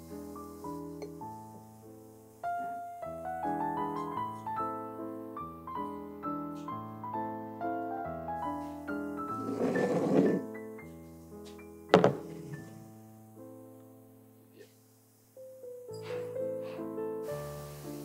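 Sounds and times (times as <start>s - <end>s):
piano music: 0.0s - 14.6s, 15.4s - 18.0s.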